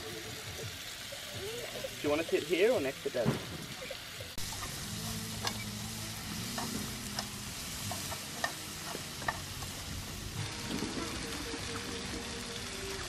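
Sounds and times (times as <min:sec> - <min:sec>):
pork sizzling in frying pan: 0:00.0 - 0:13.0.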